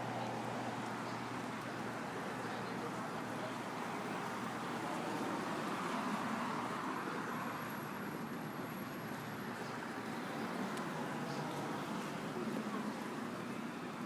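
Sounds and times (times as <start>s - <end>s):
passing cars: 0.0s - 14.0s.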